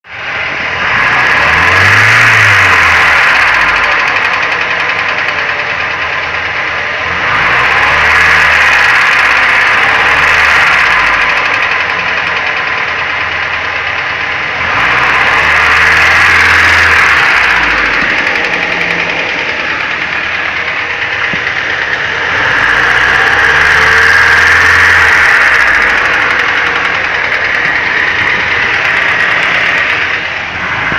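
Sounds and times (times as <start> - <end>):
car engine knocking and revving: 0.0 - 30.9.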